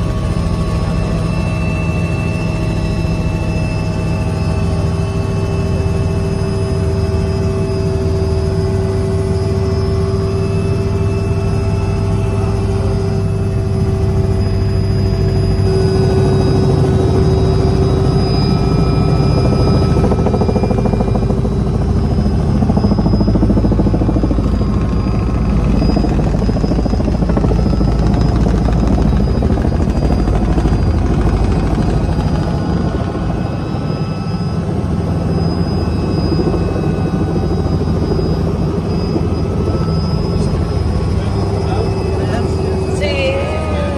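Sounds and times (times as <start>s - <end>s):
helicopter engine whining: 0.0s - 43.9s
helicopter rotors beating: 0.0s - 43.9s.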